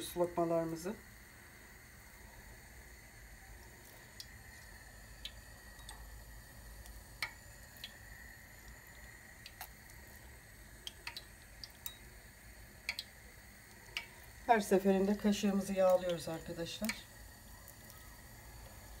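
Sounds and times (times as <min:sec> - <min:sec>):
low steady background: 0:00.0 - 0:19.0
dough frying in oil pops: 0:03.4 - 0:19.0.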